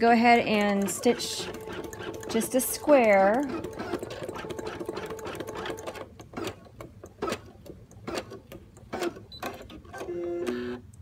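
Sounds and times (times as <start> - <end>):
embroidery machine stitching: 0.0 - 10.8.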